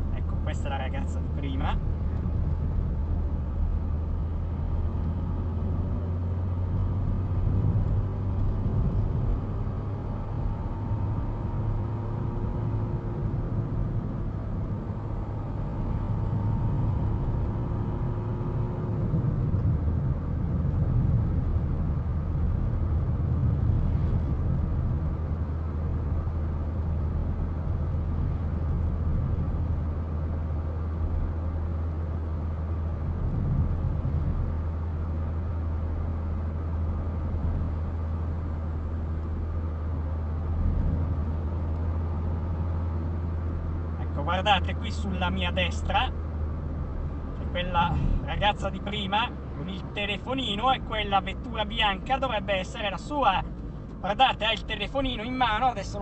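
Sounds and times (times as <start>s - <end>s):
car cabin road and engine rumble: 0.0s - 56.0s.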